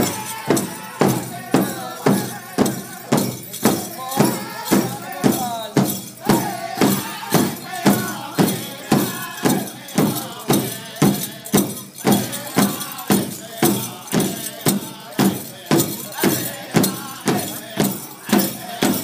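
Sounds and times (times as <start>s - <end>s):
group singing: 0.0s - 19.0s
steady drumbeat: 0.0s - 19.0s.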